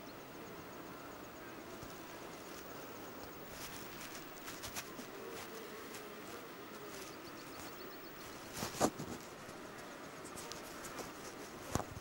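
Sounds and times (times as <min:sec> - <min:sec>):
faint insect buzz: 0:00.0 - 0:12.0
soft rustles and clicks: 0:01.7 - 0:12.0.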